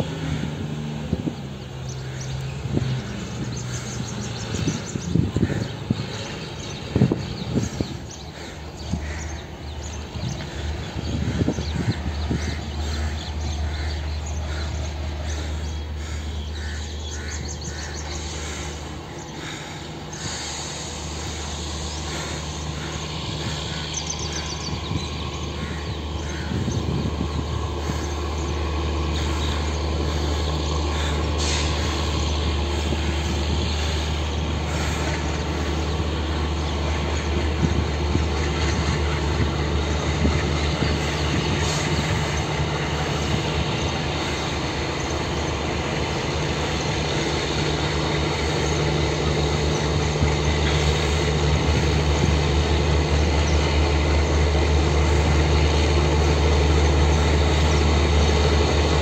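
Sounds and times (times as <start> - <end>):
locomotive engine droning: 0.0 - 59.0.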